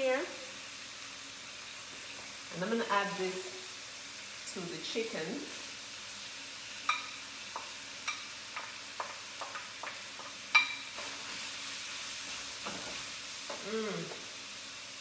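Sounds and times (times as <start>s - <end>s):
food sizzling in a hot pan: 0.0s - 15.0s.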